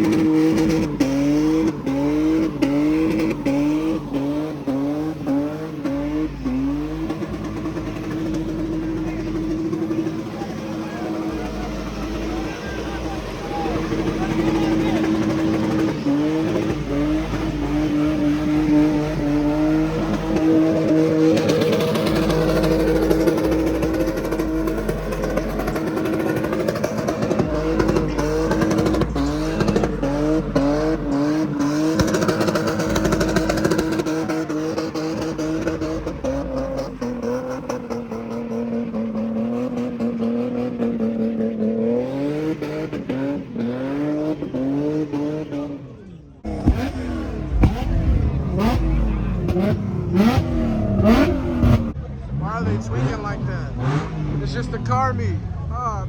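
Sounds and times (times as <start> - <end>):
car engine revving: 0.0 - 56.0
exhaust crackles: 0.0 - 56.0.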